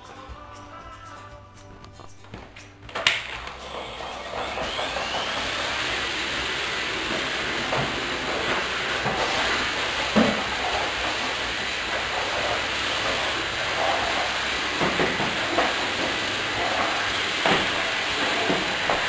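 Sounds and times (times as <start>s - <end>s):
vacuum cleaner running: 2.0s - 19.0s.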